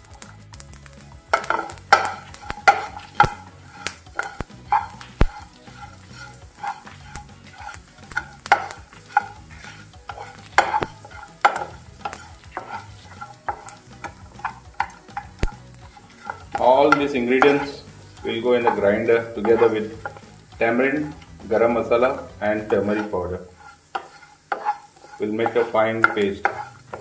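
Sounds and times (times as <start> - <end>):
light sizzle: 0.0 - 27.0
wooden spatula scraping a pan: 1.2 - 27.0.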